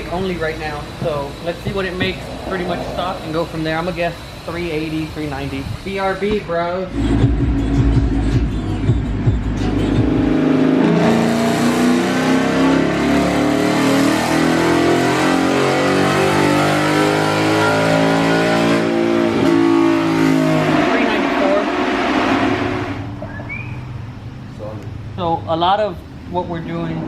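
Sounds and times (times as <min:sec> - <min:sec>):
car engine on dyno: 0:00.0 - 0:27.0.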